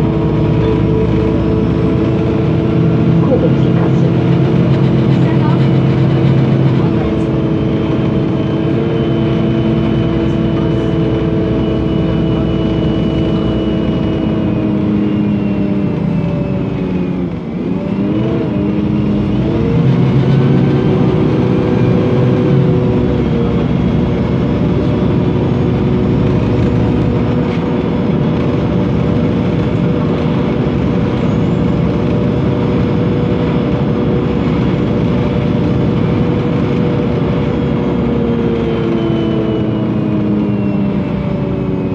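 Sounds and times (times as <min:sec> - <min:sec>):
bus engine running: 0:00.0 - 0:41.9
high whine: 0:00.0 - 0:41.9.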